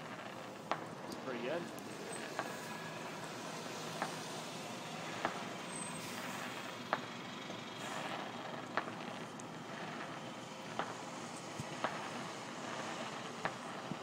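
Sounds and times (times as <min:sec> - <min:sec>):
distant fireworks bangs: 0:00.0 - 0:14.0
steady background hiss: 0:00.0 - 0:14.0.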